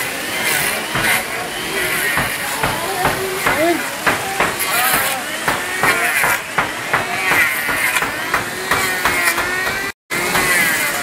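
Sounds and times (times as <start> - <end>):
sharp knocks: 0.9 - 1.4, 2.0 - 10.6.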